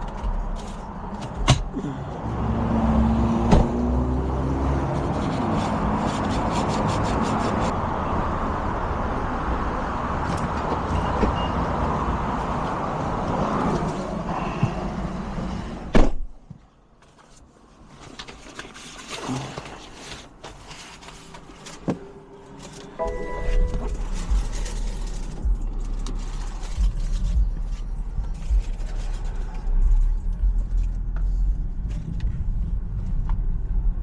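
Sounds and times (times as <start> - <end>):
car road noise: 0.0 - 34.0.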